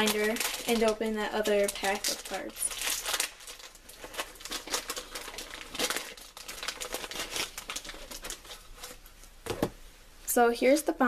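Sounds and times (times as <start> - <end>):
card packaging crinkling: 0.0 - 9.6.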